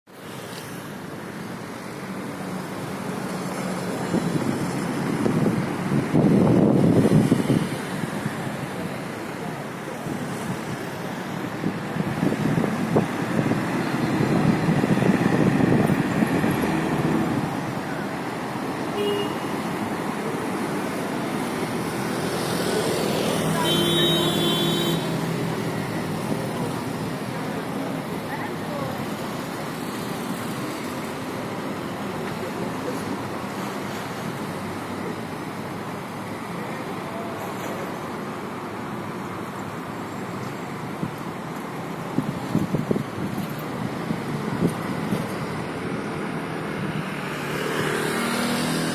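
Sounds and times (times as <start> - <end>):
traffic engines and tyres rumbling: 0.0 - 48.9.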